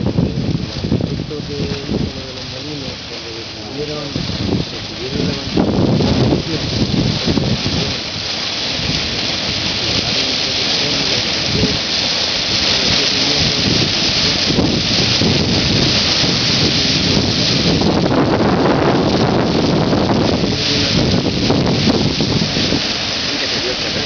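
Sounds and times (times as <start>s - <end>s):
water spout gushing hiss: 0.0s - 24.0s.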